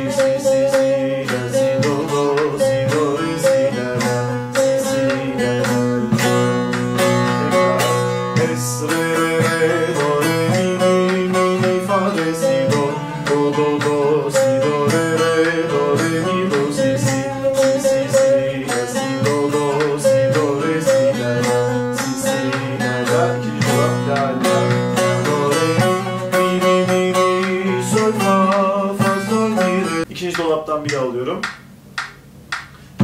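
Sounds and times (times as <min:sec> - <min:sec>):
plucked lute melody: 0:00.0 - 0:30.1.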